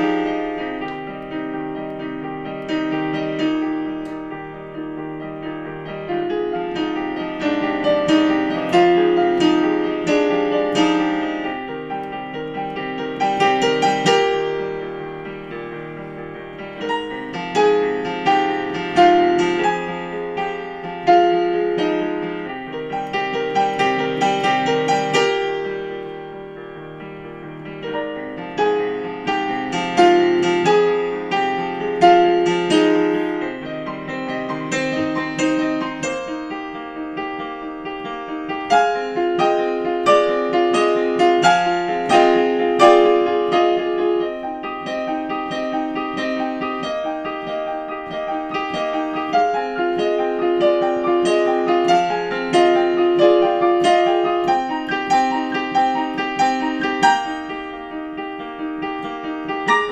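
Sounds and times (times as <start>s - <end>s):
solo digital piano piece: 0.0s - 59.9s.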